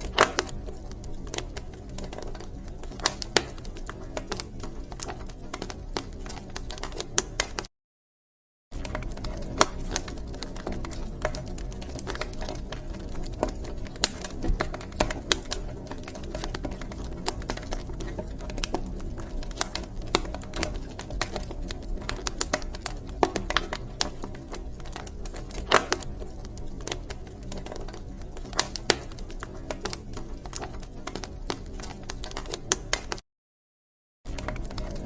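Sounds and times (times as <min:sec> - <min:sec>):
wood fire crackling: 0:00.0 - 0:07.7, 0:08.8 - 0:33.2, 0:34.3 - 0:35.0.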